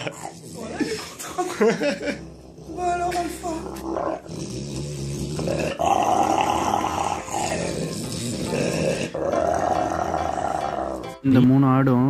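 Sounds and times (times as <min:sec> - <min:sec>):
dog growling: 0:00.0 - 0:11.2.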